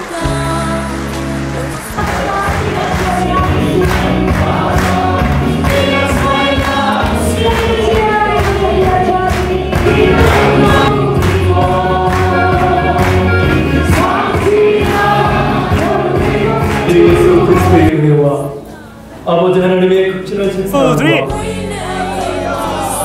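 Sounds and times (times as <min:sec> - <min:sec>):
choir singing with instruments: 0:00.0 - 0:17.9, 0:20.5 - 0:23.0.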